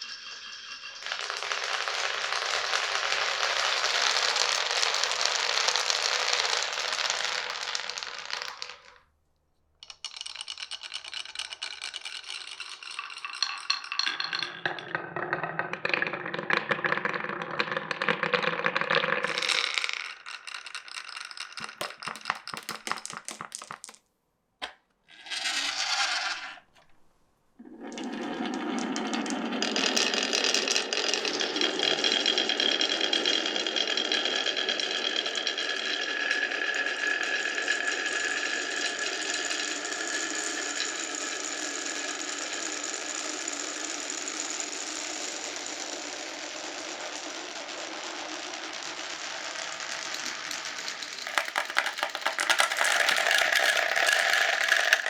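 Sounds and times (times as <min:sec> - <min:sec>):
marbles rattling in marble run: 0:00.0 - 0:09.0, 0:09.8 - 0:24.0, 0:27.6 - 0:55.0
marbles rolling with rapid clicks: 0:00.0 - 0:09.1, 0:09.8 - 0:24.0, 0:27.6 - 0:55.0.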